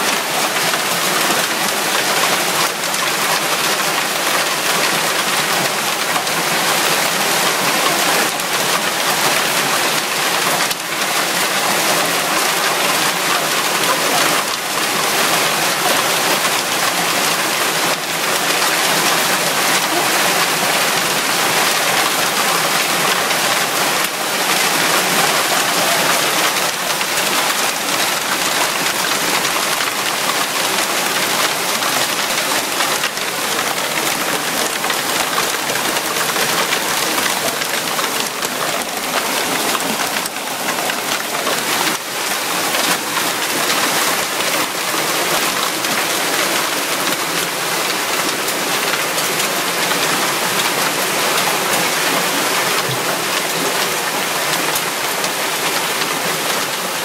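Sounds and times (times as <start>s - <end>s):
hail and heavy rain pelting: 0.0s - 57.0s.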